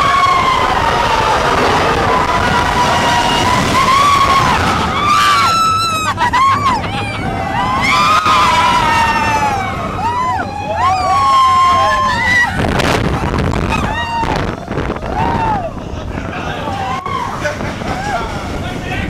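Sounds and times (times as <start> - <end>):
riders screaming: 0.0 - 15.8
roller coaster train rumbling: 0.0 - 19.0.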